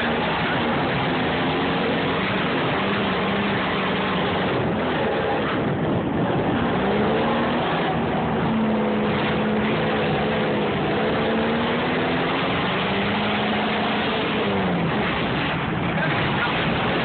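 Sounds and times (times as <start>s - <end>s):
engine running: 0.0s - 17.0s
rushing wind: 0.0s - 17.0s
tyre and road noise: 0.0s - 17.0s.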